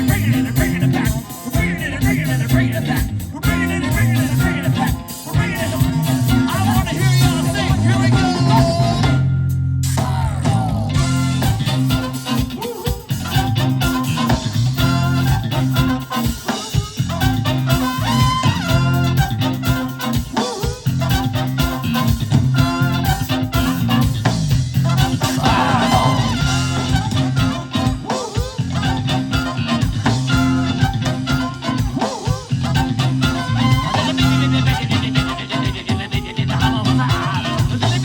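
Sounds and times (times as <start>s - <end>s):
bass guitar: 0.0s - 38.0s
drums: 0.0s - 38.0s
electric guitar: 0.0s - 38.0s.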